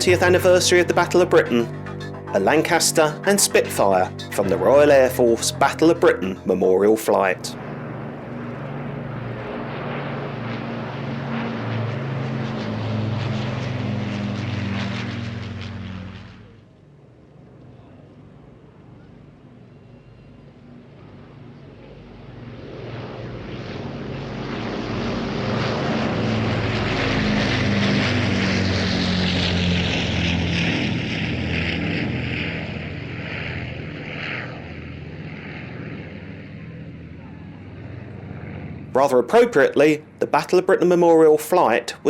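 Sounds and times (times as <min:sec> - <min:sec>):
propeller aircraft engines droning: 0:00.0 - 0:42.0.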